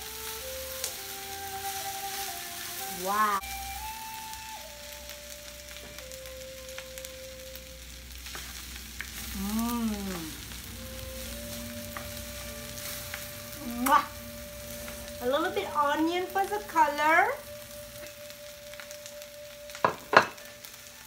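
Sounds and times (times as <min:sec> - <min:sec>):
rice sizzling in a pan: 0:00.0 - 0:21.0.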